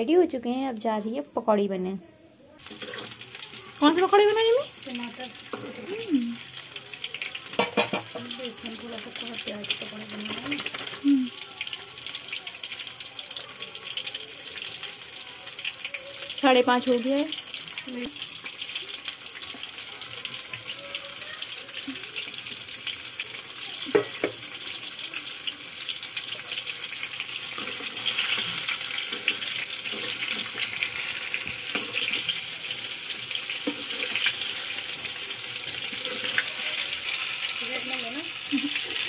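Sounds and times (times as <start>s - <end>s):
hot oil sizzling: 2.6s - 39.0s.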